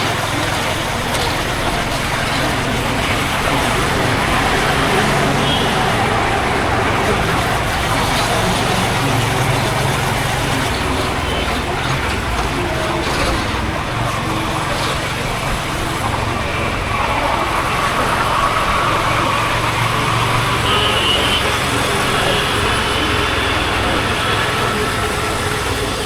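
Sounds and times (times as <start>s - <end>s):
motorcycle engine running: 0.0s - 26.0s
road and wind noise: 0.0s - 26.0s
surrounding traffic: 0.0s - 26.0s.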